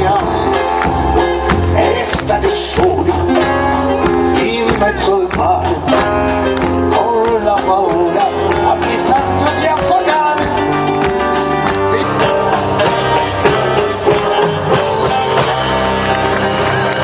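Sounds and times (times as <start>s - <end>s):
acoustic guitar: 0.0s - 17.0s
live band music: 0.0s - 17.0s.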